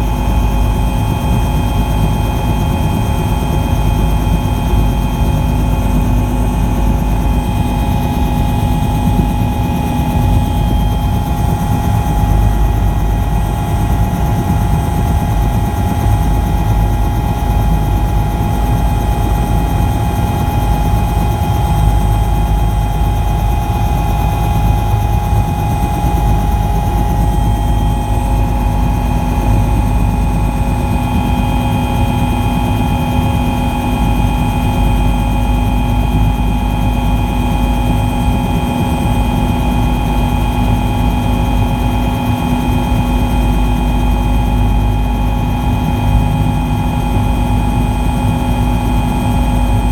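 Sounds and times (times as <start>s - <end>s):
helicopter turbine and rotor drone: 0.0s - 49.9s.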